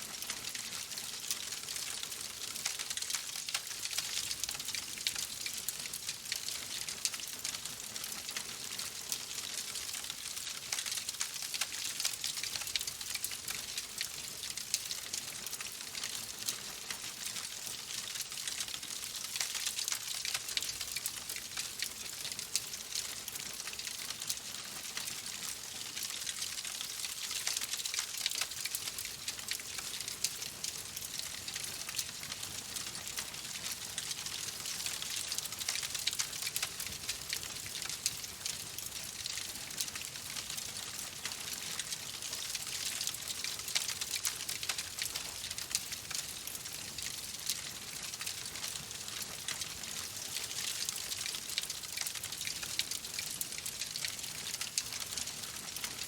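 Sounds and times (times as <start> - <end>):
wood fire crackling: 0.2 - 56.0.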